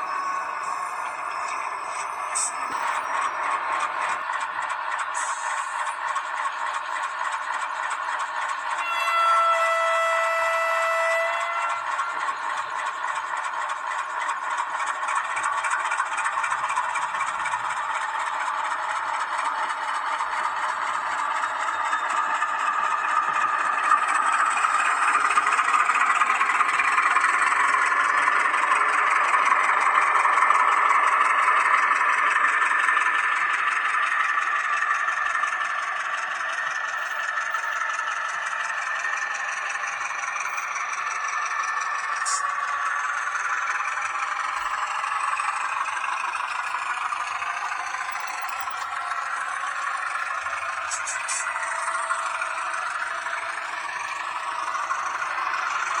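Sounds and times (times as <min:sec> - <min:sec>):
train wheels rattling: 0:00.0 - 0:56.0
model train motor whirring: 0:00.1 - 0:56.0.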